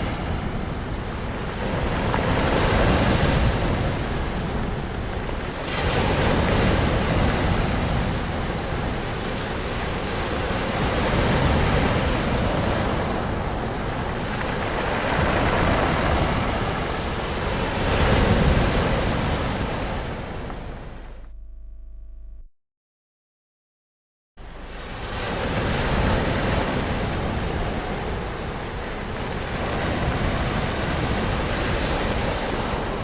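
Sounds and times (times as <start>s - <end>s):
ocean waves breaking: 0.0s - 21.3s, 24.4s - 33.0s.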